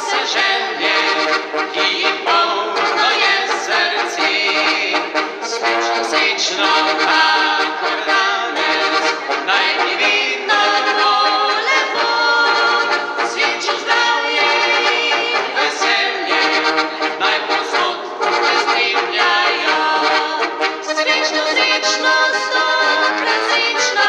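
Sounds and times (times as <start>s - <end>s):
accordion: 0.0s - 24.0s
voices singing together: 0.0s - 24.0s.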